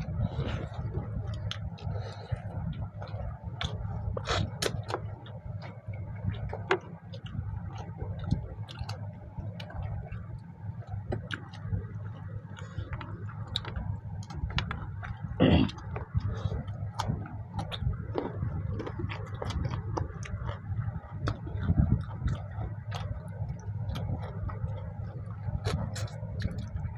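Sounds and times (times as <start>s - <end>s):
chewing and lip-smacking: 0.0s - 26.9s
low steady hum: 0.0s - 26.9s.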